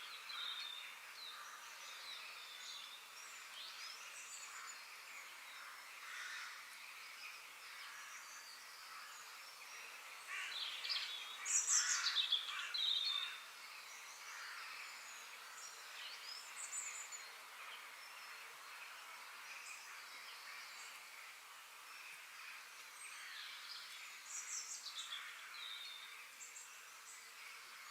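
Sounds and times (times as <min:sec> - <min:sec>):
birds chirping and singing: 0:00.0 - 0:27.9
steady background hiss: 0:00.0 - 0:27.9.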